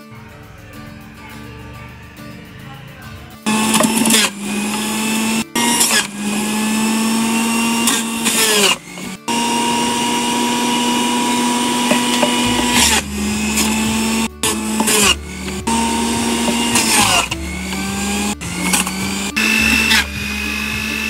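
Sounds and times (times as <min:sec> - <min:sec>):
juicer motor humming: 0:03.5 - 0:21.0
vegetables rasping on grater: 0:03.5 - 0:21.0.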